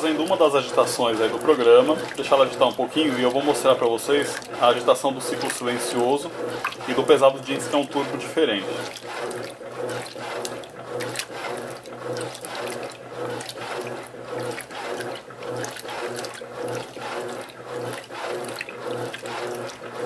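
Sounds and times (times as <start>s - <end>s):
low motor hum: 0.0s - 20.0s
washing machine water sloshing: 0.0s - 20.0s.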